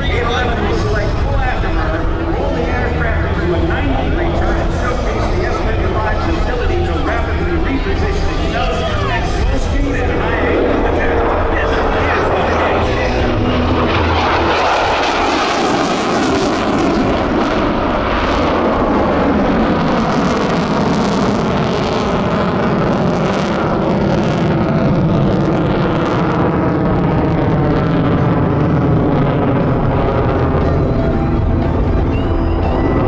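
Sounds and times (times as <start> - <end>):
jet engine roaring past: 0.0 - 33.0.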